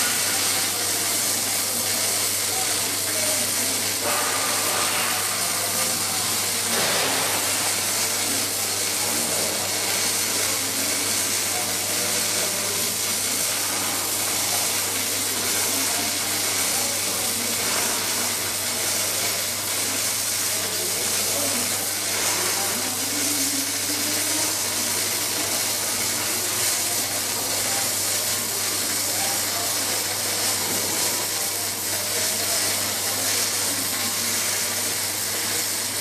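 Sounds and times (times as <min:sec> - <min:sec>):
arc welding hiss: 0:00.0 - 0:36.0.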